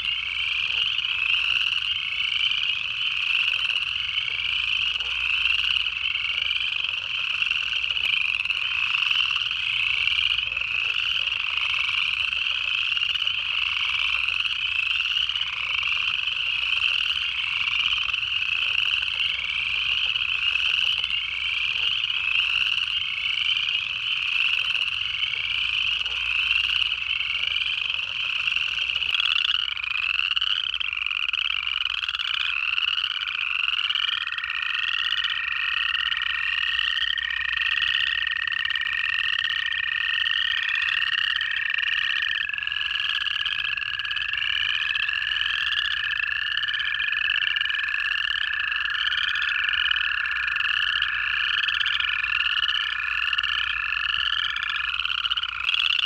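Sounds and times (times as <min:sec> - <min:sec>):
frog chorus rising trills: 0:00.0 - 0:56.0
toads long steady trills: 0:00.0 - 0:56.0.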